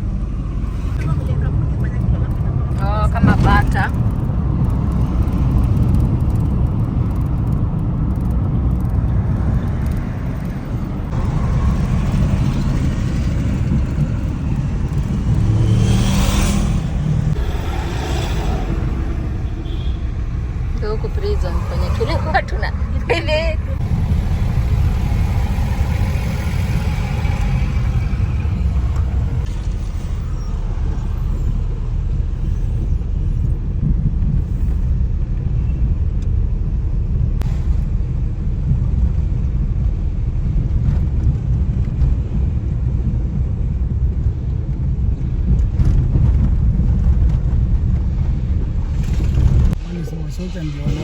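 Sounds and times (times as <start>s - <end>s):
car rumbling on the road: 0.0s - 51.0s.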